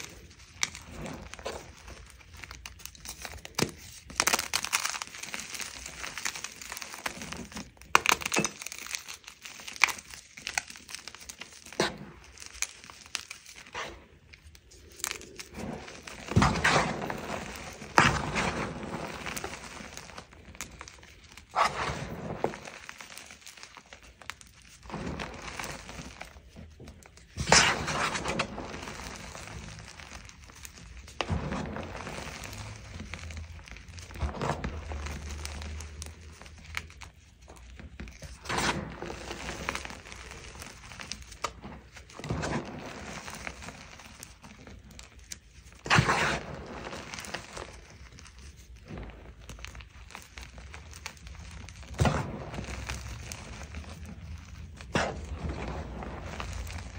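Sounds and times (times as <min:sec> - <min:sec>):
hands crushing chalk: 0:00.0 - 0:56.9.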